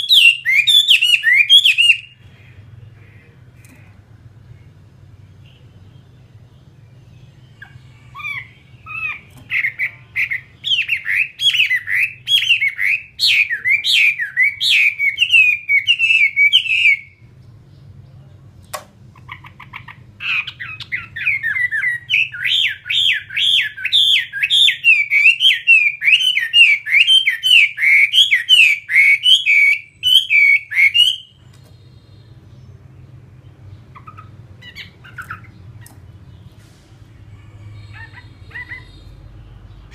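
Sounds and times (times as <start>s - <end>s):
bird singing: 0.0s - 36.6s, 37.2s - 39.9s.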